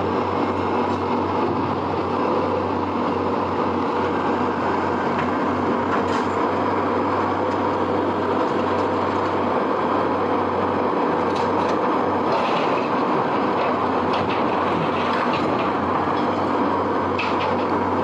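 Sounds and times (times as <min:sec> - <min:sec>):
engine humming and rumbling: 0:00.0 - 0:18.0.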